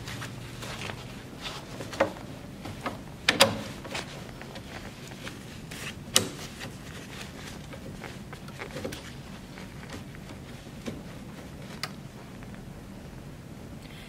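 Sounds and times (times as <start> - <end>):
fabric rustling: 0.0 - 13.2.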